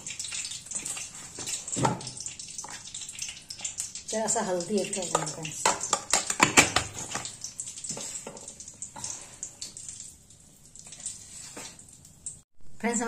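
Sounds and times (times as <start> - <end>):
hot oil sizzling and popping: 0.0 - 13.0.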